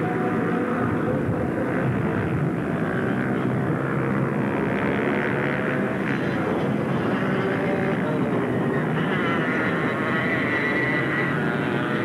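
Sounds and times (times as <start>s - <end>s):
atv engines racing: 0.0s - 12.0s.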